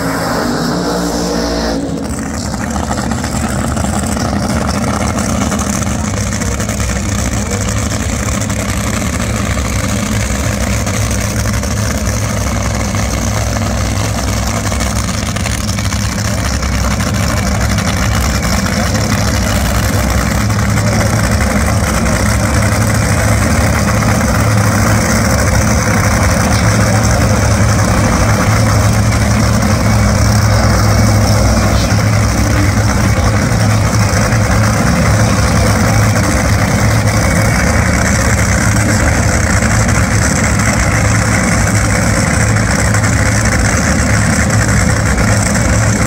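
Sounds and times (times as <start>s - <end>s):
dragster engines idling: 0.0s - 46.0s.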